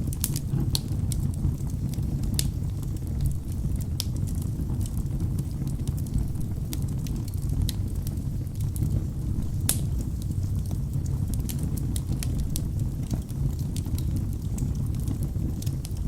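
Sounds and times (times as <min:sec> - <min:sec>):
logs crackling and popping: 0:00.0 - 0:16.0
rumble of fire flames: 0:00.0 - 0:16.0.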